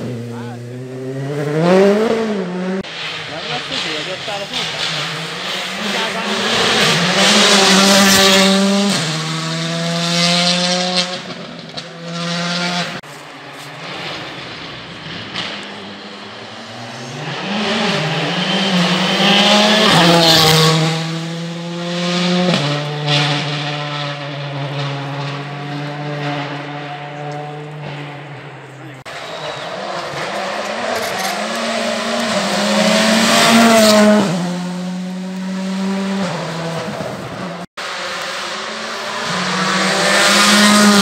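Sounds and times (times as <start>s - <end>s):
rally car engine revving: 0.0s - 41.0s.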